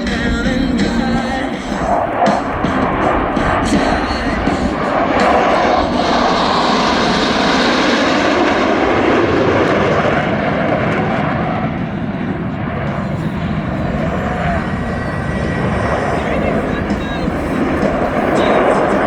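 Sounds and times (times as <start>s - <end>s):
jet roar flying past: 0.0s - 19.0s.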